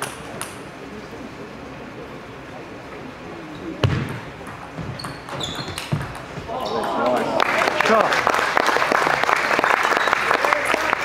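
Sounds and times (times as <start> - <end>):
low murmur in a hall: 0.0 - 11.0.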